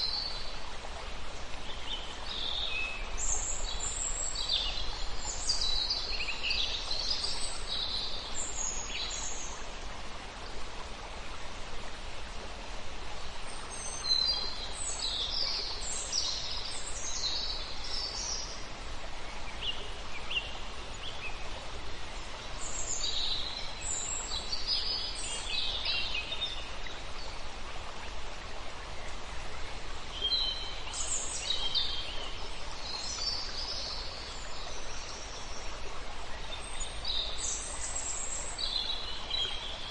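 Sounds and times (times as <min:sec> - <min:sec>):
small stream running: 0:00.0 - 0:39.9
songbirds chirping: 0:00.0 - 0:39.9.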